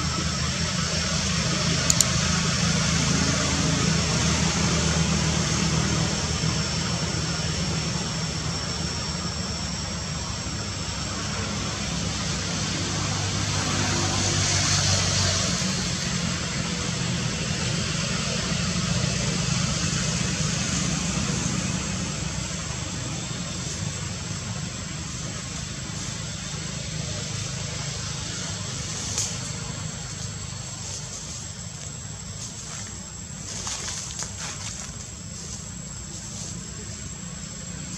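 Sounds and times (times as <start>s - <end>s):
motor engine running: 0.0s - 37.9s.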